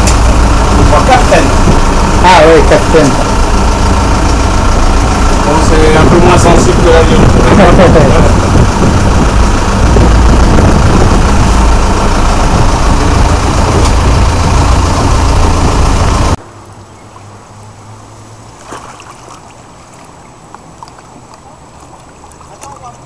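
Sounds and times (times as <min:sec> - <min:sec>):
boat engine droning: 0:00.0 - 0:23.0
water noise: 0:00.0 - 0:23.0
wind: 0:00.0 - 0:23.0.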